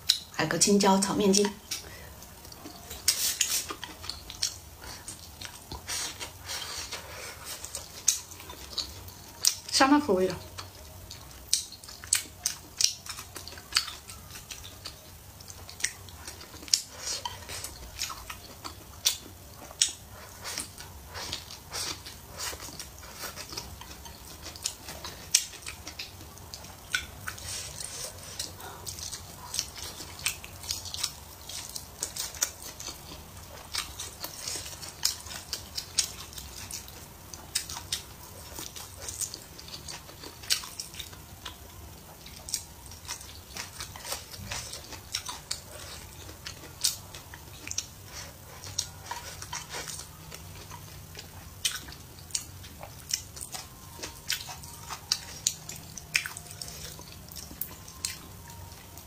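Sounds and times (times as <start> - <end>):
person chewing food: 0.0 - 0.4, 1.3 - 9.7, 10.4 - 59.0.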